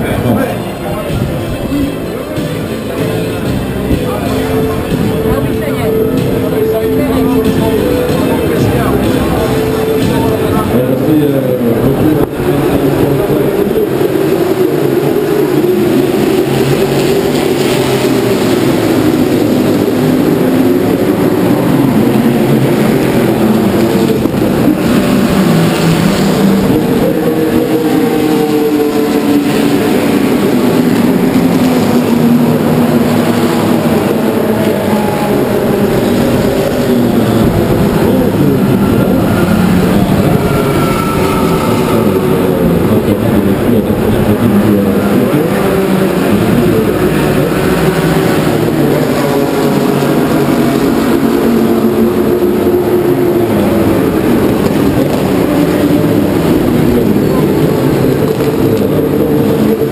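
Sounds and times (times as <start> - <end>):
racing car engines passing: 0.0 - 59.9.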